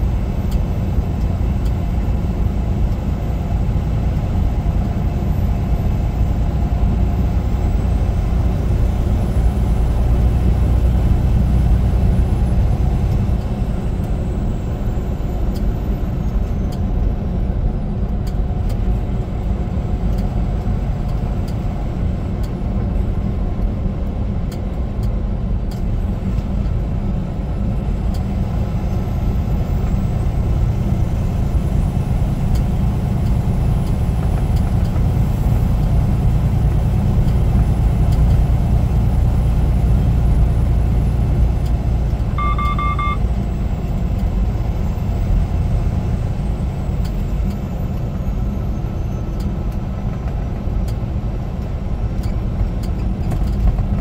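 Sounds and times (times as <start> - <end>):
road noise: 0.0 - 54.0
truck diesel engine rumble: 0.0 - 54.0.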